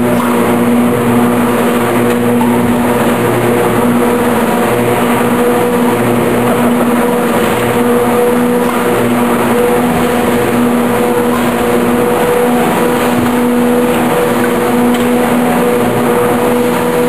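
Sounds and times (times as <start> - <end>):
baler machine humming: 0.0 - 17.0.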